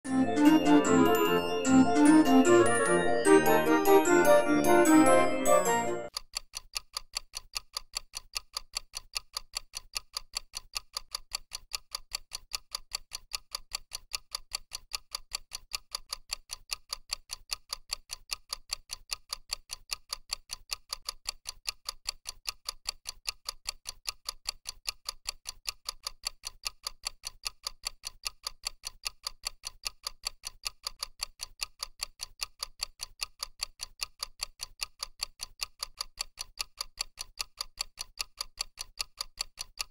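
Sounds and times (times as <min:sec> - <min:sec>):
clock ticking: 0:00.1 - 0:39.9.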